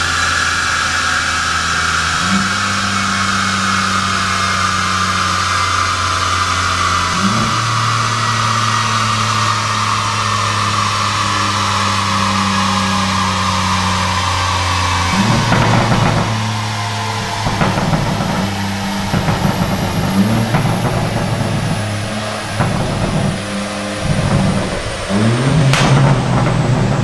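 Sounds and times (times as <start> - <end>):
car engine drone: 0.0 - 27.0
tyres and rollers whining: 0.0 - 27.0.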